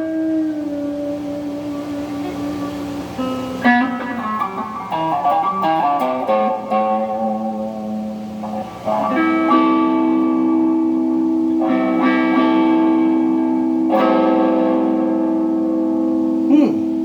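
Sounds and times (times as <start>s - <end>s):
electric guitar chords ringing: 0.0s - 17.0s
guitar pitch sweep: 0.0s - 17.0s.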